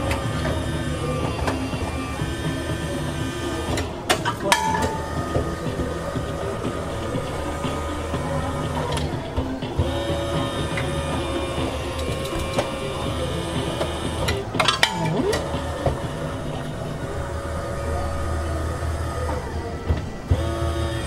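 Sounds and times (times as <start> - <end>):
vending machine humming: 0.0 - 21.0.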